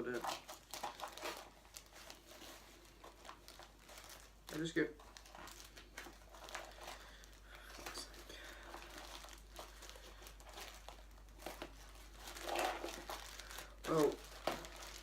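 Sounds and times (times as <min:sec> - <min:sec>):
packaging crinkling and tearing: 0:00.0 - 0:15.0
small crackles: 0:00.0 - 0:15.0.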